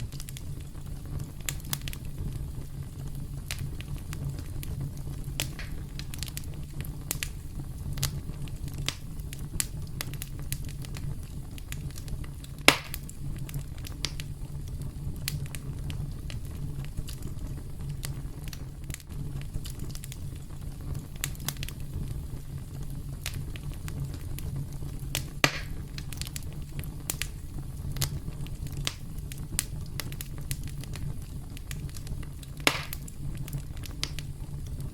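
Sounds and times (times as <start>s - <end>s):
burning wood crackling and popping: 0.0s - 34.9s
fire flames rumbling: 0.0s - 34.9s.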